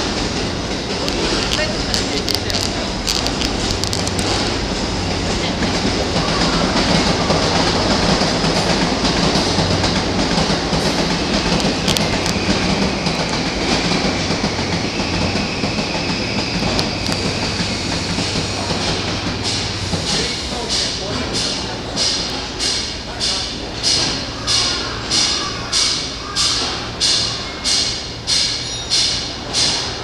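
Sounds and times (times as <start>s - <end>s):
train wheels clattering over rail joints: 0.0s - 30.0s.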